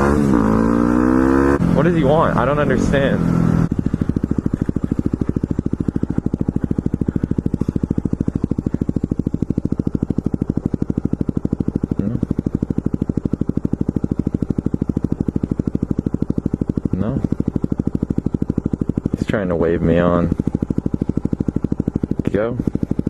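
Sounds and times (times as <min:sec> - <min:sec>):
vehicle engine idling: 0:01.6 - 0:23.0.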